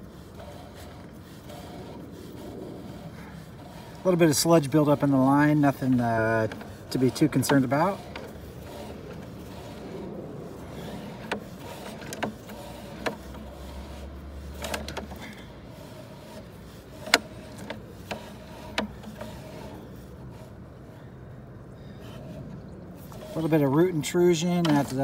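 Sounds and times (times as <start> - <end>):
cable clicking and knocking in pipe: 0.0 - 20.6.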